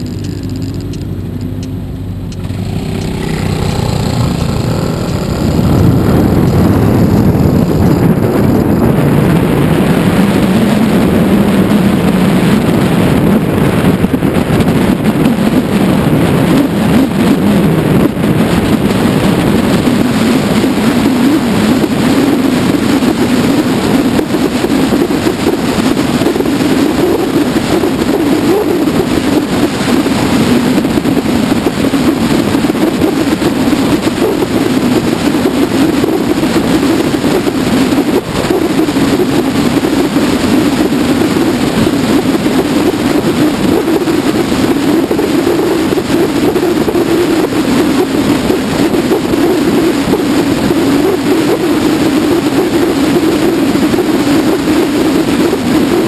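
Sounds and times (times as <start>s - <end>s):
scooter engine revving: 0.0s - 56.0s
wind and road noise: 0.0s - 56.0s.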